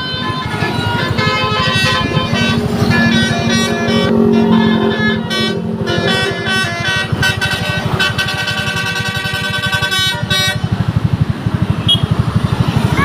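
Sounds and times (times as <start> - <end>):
bus horns playing melody: 0.0 - 11.0, 11.8 - 12.1
low engine beat: 0.0 - 13.0.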